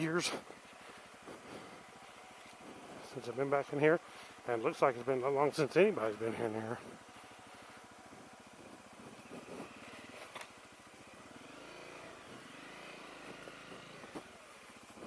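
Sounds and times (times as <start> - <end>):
faint motorcycle engine running: 0.0 - 15.0.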